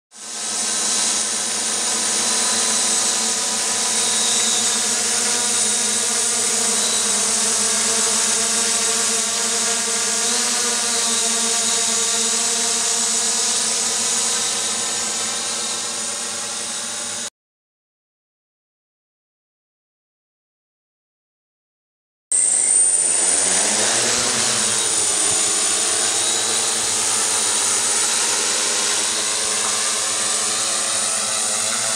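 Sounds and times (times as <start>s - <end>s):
drone motors buzzing: 0.2s - 17.3s, 22.3s - 31.9s.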